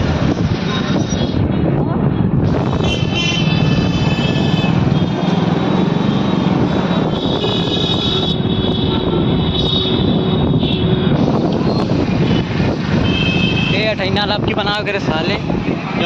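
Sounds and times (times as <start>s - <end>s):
traffic engines and road noise: 0.0s - 16.0s.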